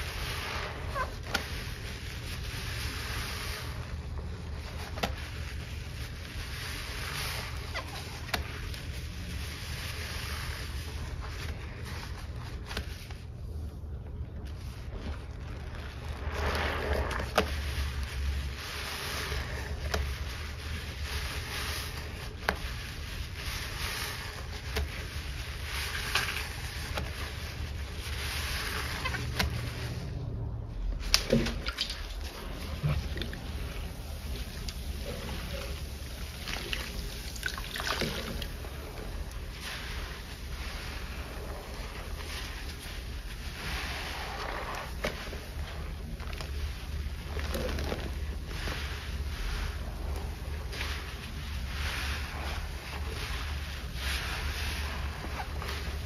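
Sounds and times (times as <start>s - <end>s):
steady low rumble: 0.0s - 56.0s
wet sponge squelching and sloshing: 0.0s - 56.0s.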